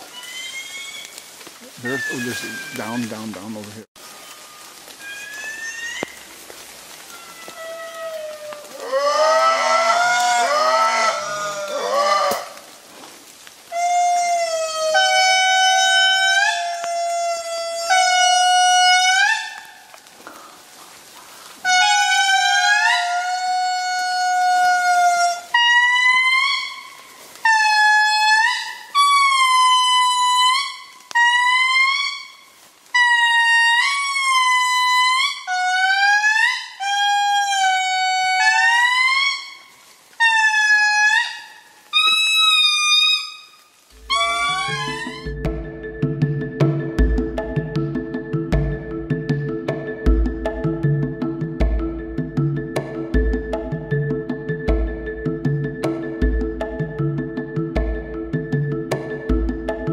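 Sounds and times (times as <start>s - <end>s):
lemur horn-like calls: 0.0s - 6.4s, 7.0s - 12.7s, 13.6s - 20.5s, 21.6s - 59.9s.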